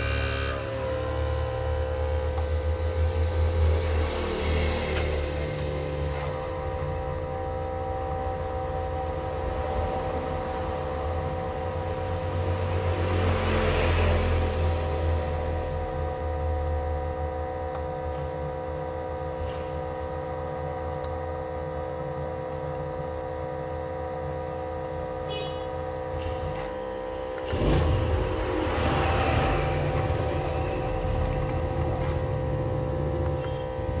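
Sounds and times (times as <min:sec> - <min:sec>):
machine hum with low rumble: 0:00.0 - 0:34.0.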